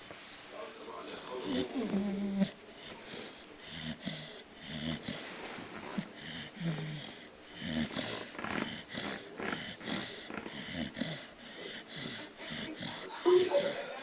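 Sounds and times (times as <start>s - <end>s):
dog snoring: 1.1s - 13.8s.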